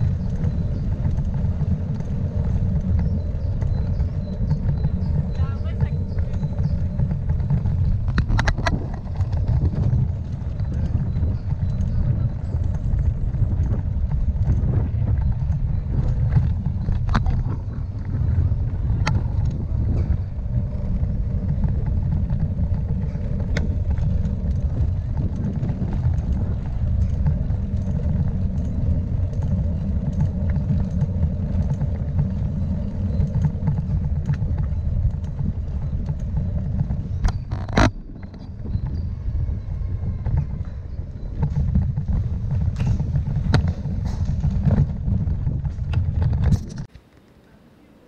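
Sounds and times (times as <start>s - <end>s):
bicycle clicks and rattles: 0.0s - 47.4s
bicycle rumbling over cobblestones: 0.0s - 48.0s.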